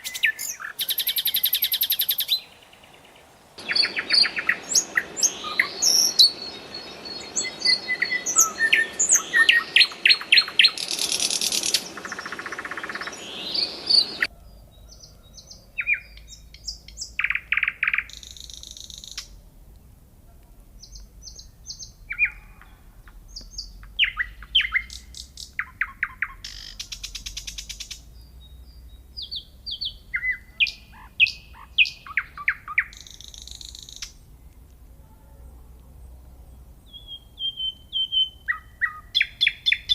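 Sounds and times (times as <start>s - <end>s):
nightingale singing: 0.0s - 19.9s, 20.7s - 34.8s, 36.5s - 39.9s
background hiss: 0.0s - 39.9s.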